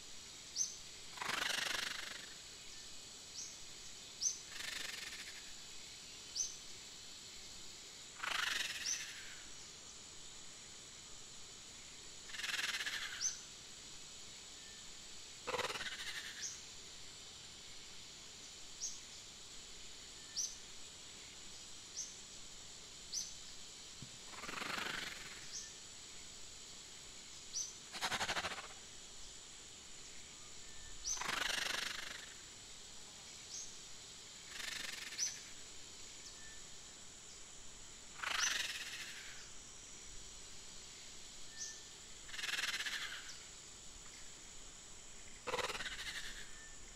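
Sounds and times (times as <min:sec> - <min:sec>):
insect-like hiss: 0:00.0 - 0:46.9.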